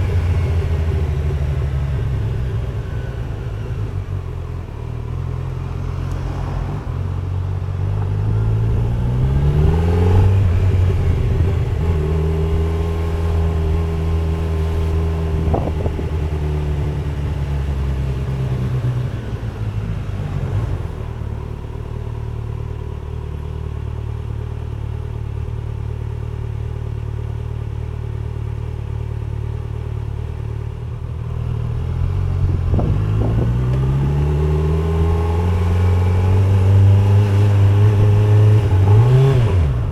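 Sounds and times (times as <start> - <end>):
motorcycle engine revving: 0.0 - 26.6, 28.6 - 39.9.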